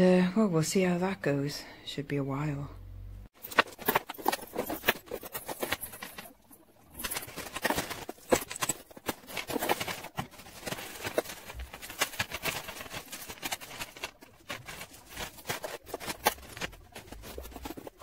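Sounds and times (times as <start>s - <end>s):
jewellery clinking: 3.4s - 18.0s
plastic bags rustling: 3.4s - 18.0s.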